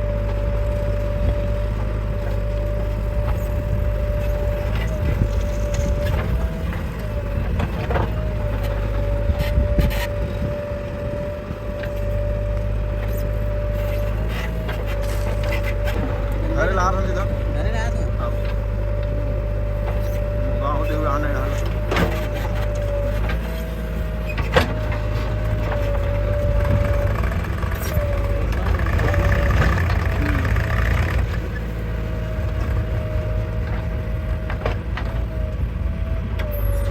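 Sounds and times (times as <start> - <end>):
diesel machinery engine running: 0.0 - 36.9.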